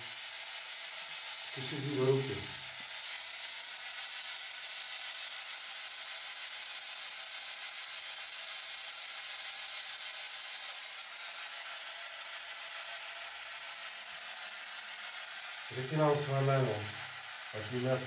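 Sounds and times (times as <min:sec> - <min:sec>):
static hiss: 0:00.0 - 0:18.0.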